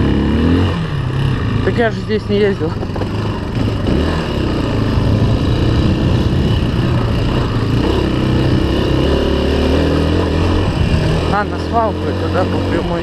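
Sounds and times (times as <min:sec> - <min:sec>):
off-road vehicle engine running: 0:00.0 - 0:13.0
riding noise rush: 0:00.9 - 0:13.0.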